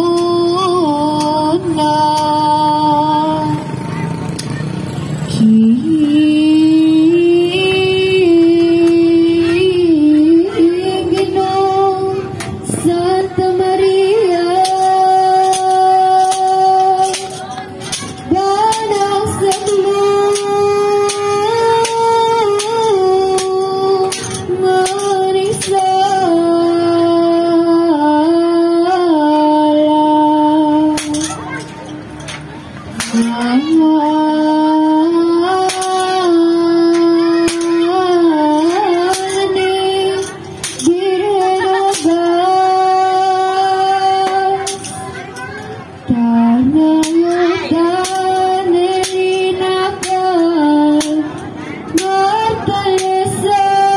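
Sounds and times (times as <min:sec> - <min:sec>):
woman singing a slow chant: 0:00.0 - 0:04.4, 0:05.2 - 0:31.8, 0:33.0 - 0:45.3, 0:46.0 - 0:53.9.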